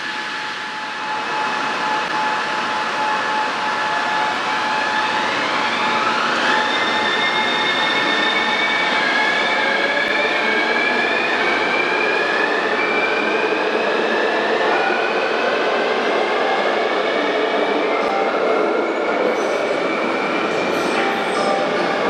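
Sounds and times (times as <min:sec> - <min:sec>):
electric train whine: 0:00.0 - 0:22.0.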